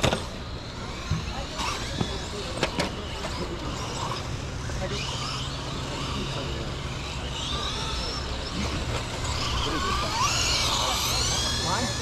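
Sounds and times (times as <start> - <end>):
electric motors whining: 0.0 - 12.0
steady low hum: 0.0 - 12.0.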